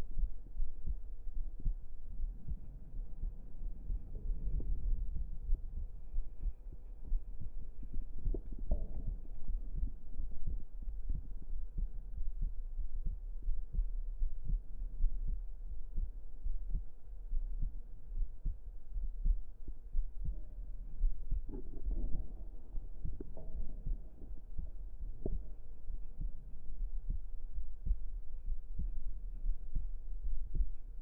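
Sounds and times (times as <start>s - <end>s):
constant deep rumble: 0.0s - 31.0s
heartbeat thuds: 0.0s - 31.0s.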